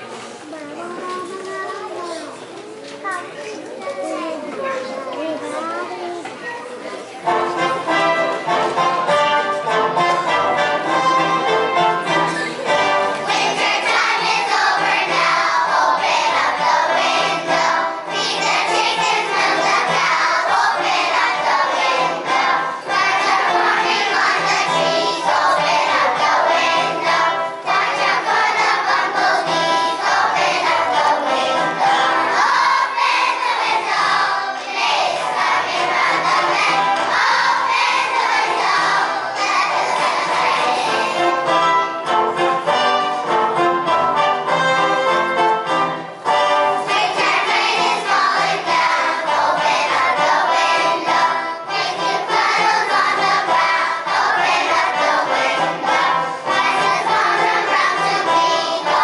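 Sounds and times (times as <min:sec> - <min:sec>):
children's choir singing: 0:04.7 - 0:59.0
instrumental accompaniment: 0:07.1 - 0:59.0.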